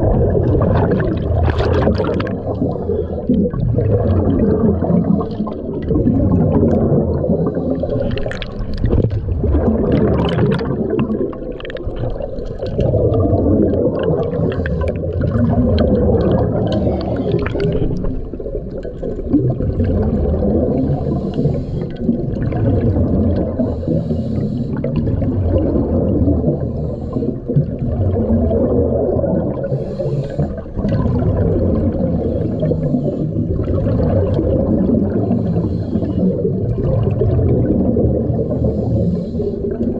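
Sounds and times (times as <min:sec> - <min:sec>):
underwater regulator bubbles: 0:00.0 - 0:39.9.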